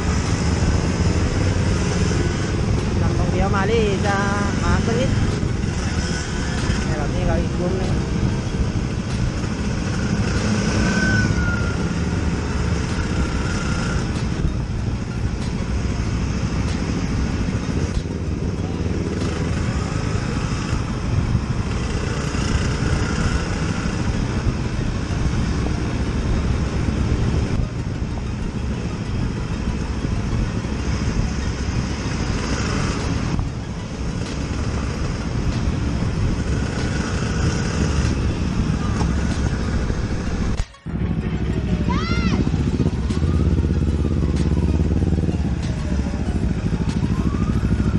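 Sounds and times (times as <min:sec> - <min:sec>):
wind rush on microphone: 0:00.0 - 0:41.6
two-stroke motorcycle engine running: 0:00.0 - 0:47.9.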